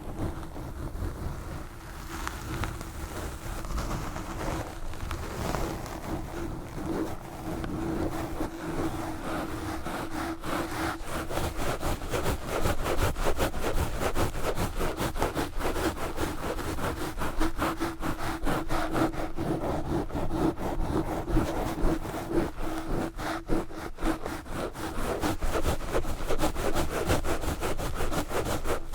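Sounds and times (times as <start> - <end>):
gloves scratching a microphone: 0.0 - 28.9.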